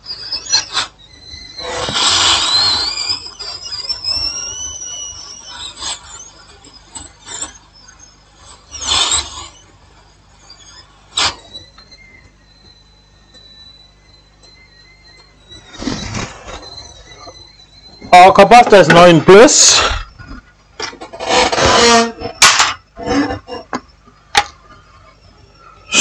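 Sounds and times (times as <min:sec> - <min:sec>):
small tools scraping circuit board: 0:00.0 - 0:26.0.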